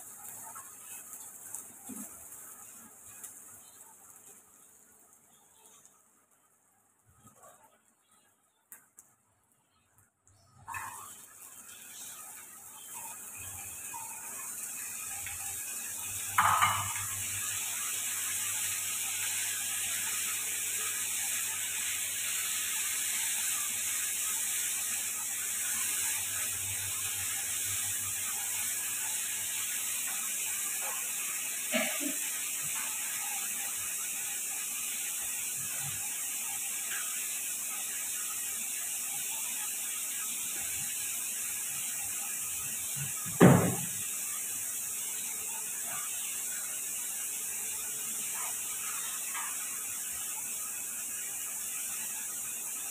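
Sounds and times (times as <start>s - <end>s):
potatoes sizzling in oil: 0.0s - 52.9s.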